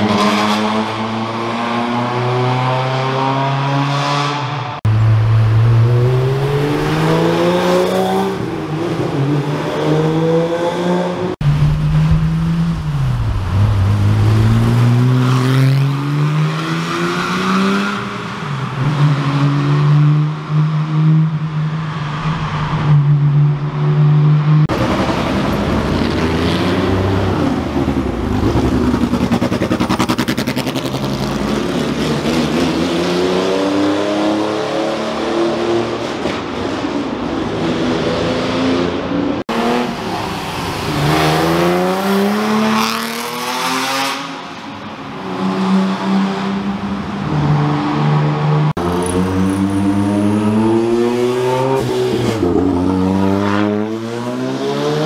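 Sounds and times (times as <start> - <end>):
engine echoing in tunnel: 0.0 - 55.0
rally car engines revving: 0.0 - 55.0.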